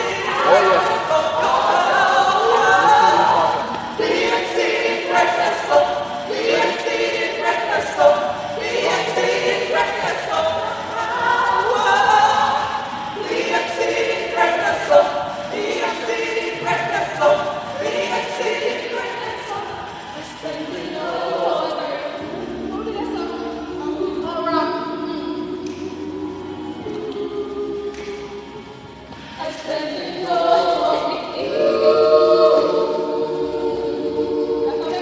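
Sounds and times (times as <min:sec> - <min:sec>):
church choir singing: 0:00.0 - 0:35.0.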